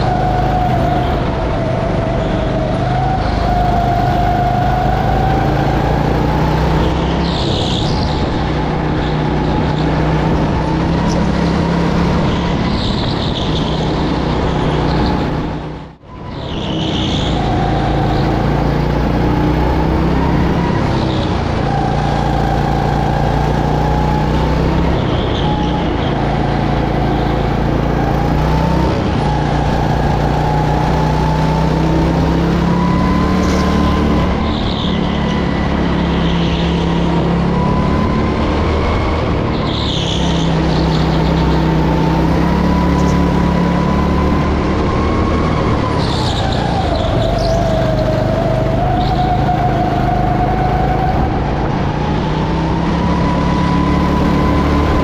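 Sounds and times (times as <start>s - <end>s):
go-kart engine accelerating: 0.0s - 55.0s.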